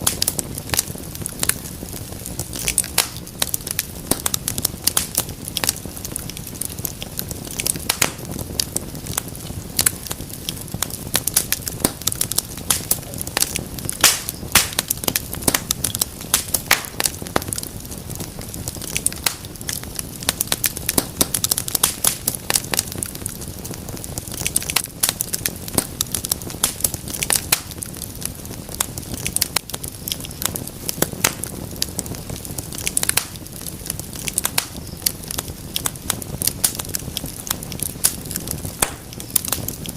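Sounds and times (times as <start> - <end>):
low rumble of burning logs: 0.0 - 39.9
wood fire crackling: 0.0 - 39.9.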